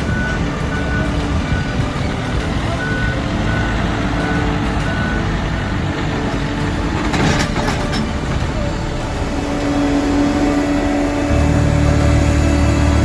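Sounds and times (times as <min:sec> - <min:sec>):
heavy equipment engines running: 0:00.0 - 0:13.0
reversing beeper: 0:00.0 - 0:13.0.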